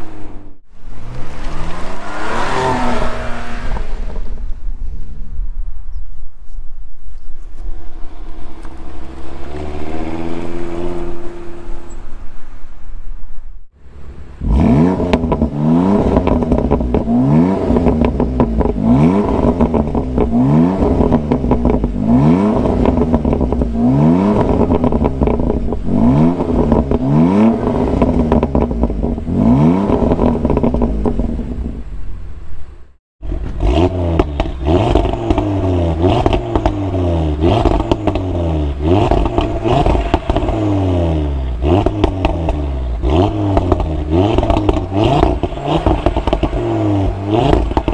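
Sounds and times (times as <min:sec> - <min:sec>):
sports car exhaust revving: 0:00.0 - 0:04.6, 0:07.7 - 0:12.0, 0:13.9 - 0:47.9.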